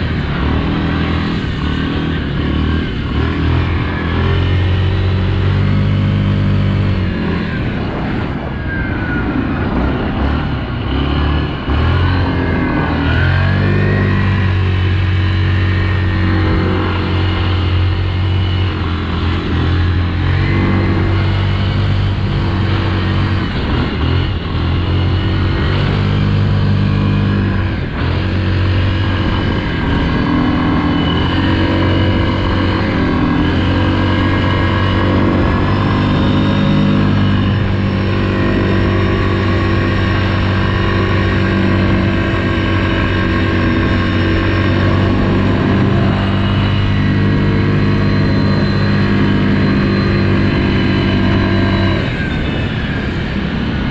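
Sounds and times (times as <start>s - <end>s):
atv engine running: 0.0s - 8.5s, 9.2s - 53.9s.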